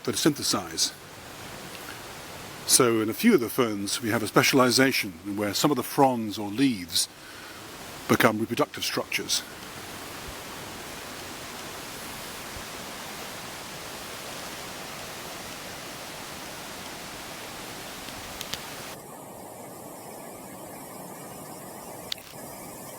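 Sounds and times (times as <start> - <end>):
stream water rushing: 0.0 - 19.4.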